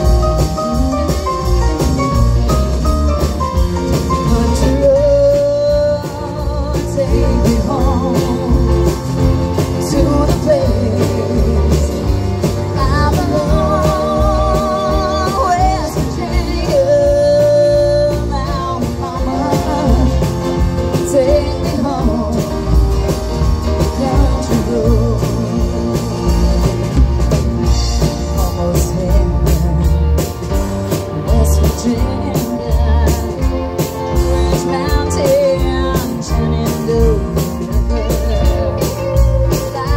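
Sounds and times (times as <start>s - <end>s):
country-rock band playing: 0.0s - 39.9s.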